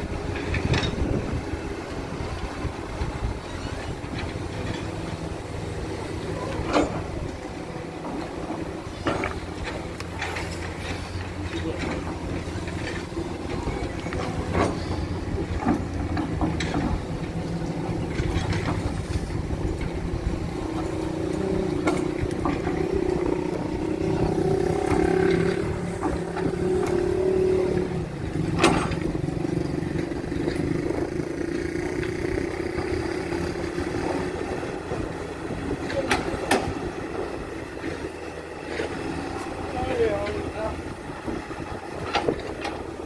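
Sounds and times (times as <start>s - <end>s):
heavy engine droning: 0.0s - 43.0s.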